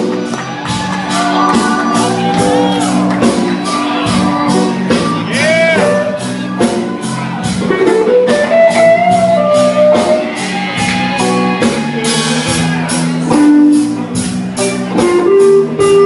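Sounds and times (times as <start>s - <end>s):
steady drum beat: 0.0s - 16.0s
electric guitar bending notes: 0.9s - 16.0s.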